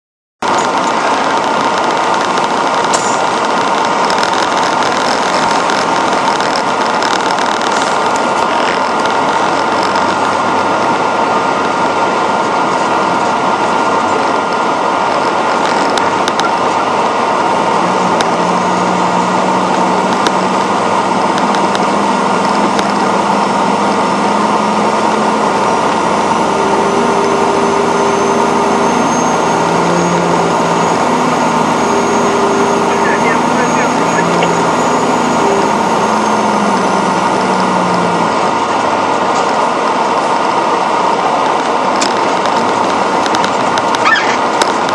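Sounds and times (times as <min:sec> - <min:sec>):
truck diesel engine running: 0:00.4 - 0:44.9.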